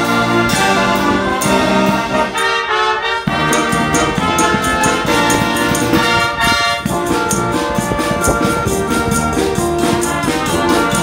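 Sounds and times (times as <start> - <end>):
wind band playing: 0.0 - 11.0.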